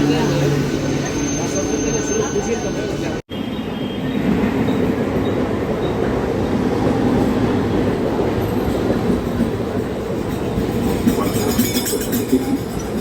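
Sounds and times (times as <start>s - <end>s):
train running on track: 0.0s - 13.0s.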